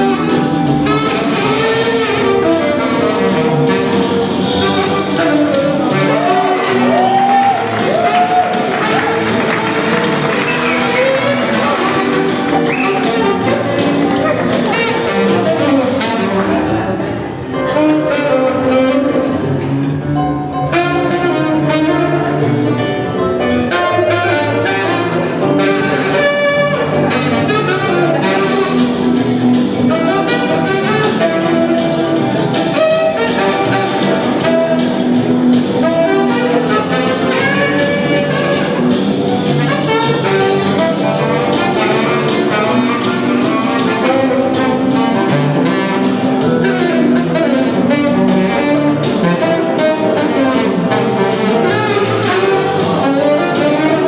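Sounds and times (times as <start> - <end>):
jazz blues band playing: 0.0 - 54.0
saxophone melody: 0.0 - 54.0.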